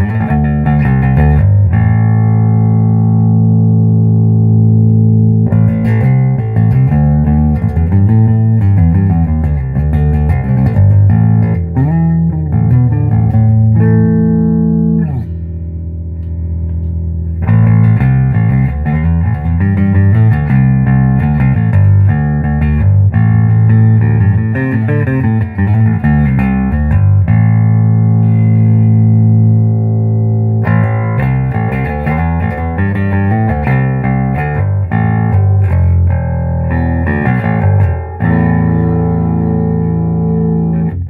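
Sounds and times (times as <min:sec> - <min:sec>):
bass guitar plucked notes: 0:00.0 - 0:41.0.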